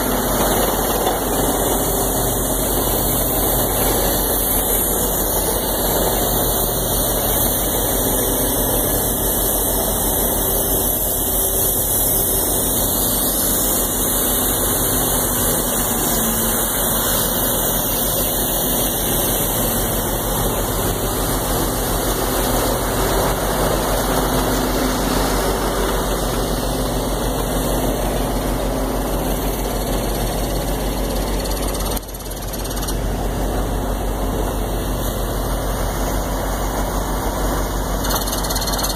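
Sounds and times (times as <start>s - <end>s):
air compressor running: 0.0s - 38.9s
drilling rig diesel engine: 0.0s - 38.9s.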